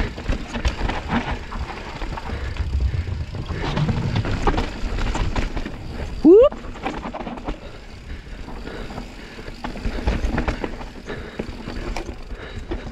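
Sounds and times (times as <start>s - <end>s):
bike clicking and rattling: 0.0s - 12.9s
bike tyres rumbling over dirt: 0.0s - 12.9s.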